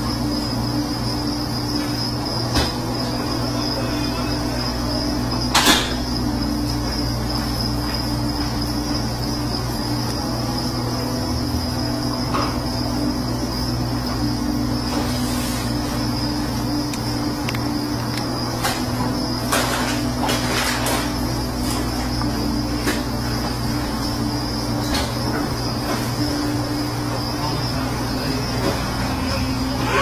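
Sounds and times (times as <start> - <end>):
high-pitched whine: 0.0 - 30.0
steady low hum: 0.0 - 30.0.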